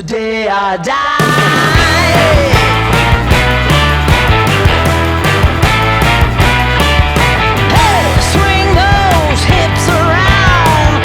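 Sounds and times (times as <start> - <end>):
rock music: 1.2 - 11.0.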